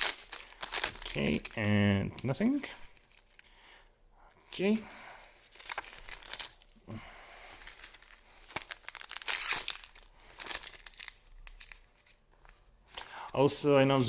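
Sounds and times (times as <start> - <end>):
wrappers crinkling and tearing: 0.0 - 3.5, 5.4 - 13.1.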